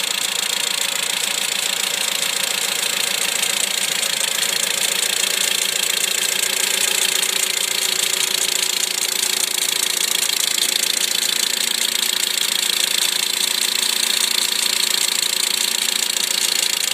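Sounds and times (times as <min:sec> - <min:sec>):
car engine idling: 0:00.0 - 0:16.9
rapid engine ticking: 0:00.0 - 0:16.9.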